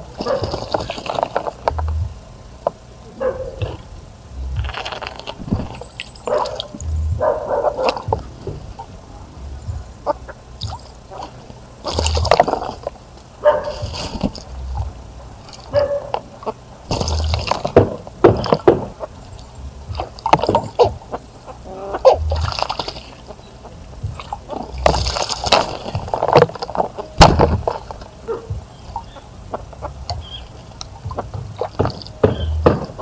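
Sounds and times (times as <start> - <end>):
birds splashing in water: 0.0 - 33.0.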